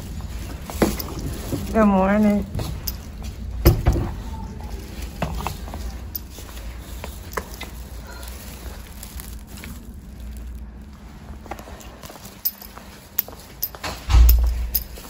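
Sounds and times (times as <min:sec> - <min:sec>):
footsteps: 0:00.0 - 0:15.0.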